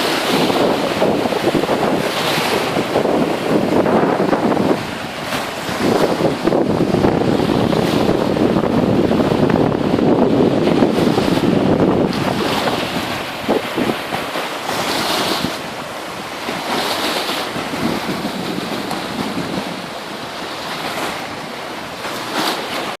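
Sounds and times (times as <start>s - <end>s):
sea waves washing in: 0.0s - 23.0s
wind buffeting the microphone: 0.0s - 23.0s.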